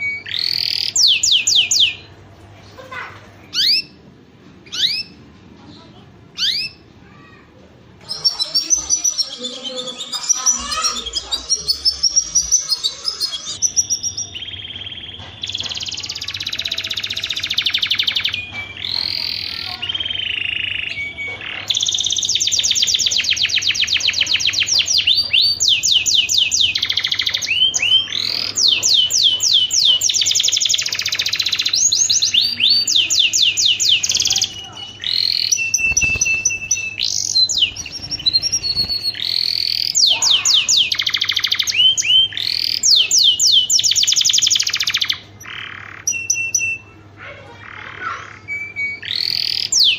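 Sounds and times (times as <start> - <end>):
canary singing trills: 0.0 - 5.3, 6.3 - 6.9, 8.0 - 49.9.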